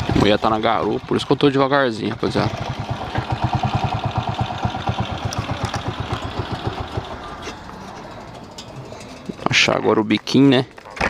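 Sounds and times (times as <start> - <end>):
motorcycle engine puttering: 0.0 - 11.0.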